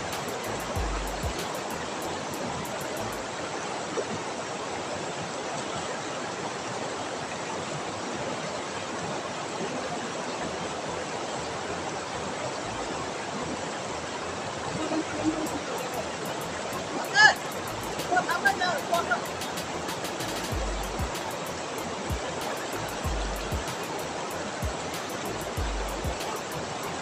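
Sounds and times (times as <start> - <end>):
flowing river water: 0.0 - 27.0.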